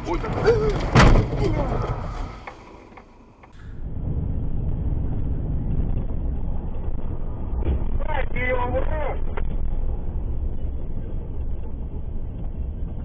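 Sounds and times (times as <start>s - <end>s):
car driving rumble from inside: 0.0s - 13.0s.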